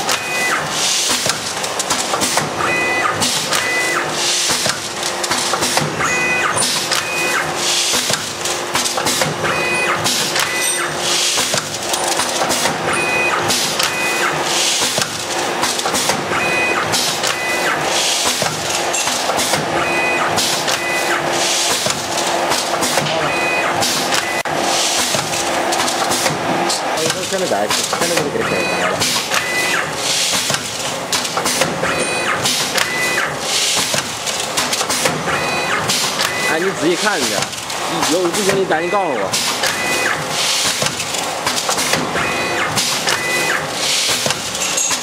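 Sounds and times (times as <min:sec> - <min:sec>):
packing machine clatter and hum: 0:00.0 - 0:45.0.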